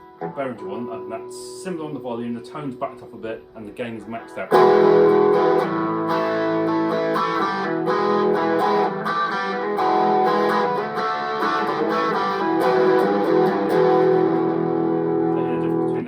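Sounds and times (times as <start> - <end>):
distorted electric guitar: 2.6 - 16.0.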